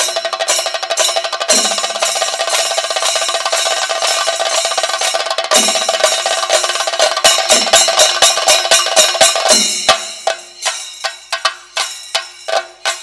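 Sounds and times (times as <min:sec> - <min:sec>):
drums beaten with sticks: 0:00.0 - 0:13.0
ringing cymbals: 0:00.0 - 0:13.0.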